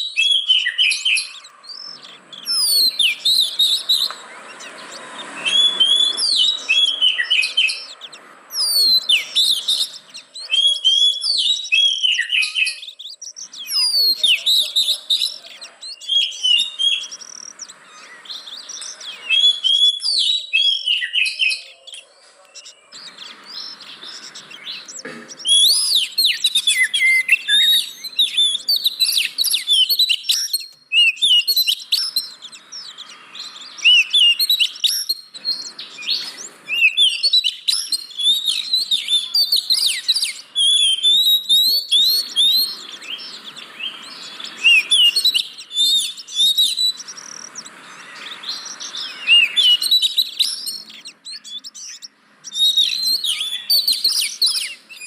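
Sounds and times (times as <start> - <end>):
bird singing whistles and chirps: 0.0 - 55.0.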